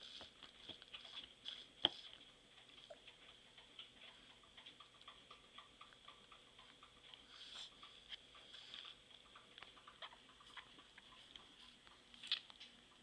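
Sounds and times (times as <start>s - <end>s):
wet mouth clicks chewing: 0.0s - 12.7s.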